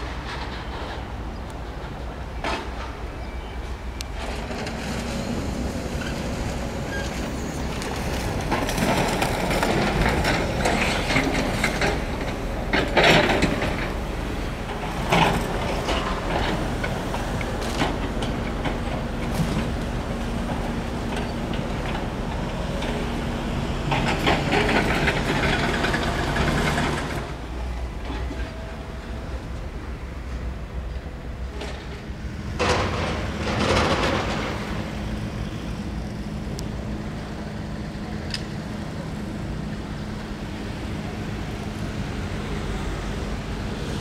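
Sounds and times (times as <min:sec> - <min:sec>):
excavator diesel engine rumble: 0:00.0 - 0:44.0.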